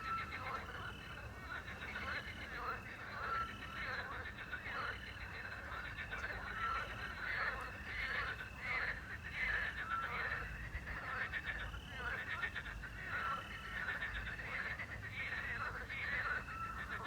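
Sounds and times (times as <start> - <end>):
frogs croaking and trilling: 0.0 - 17.0.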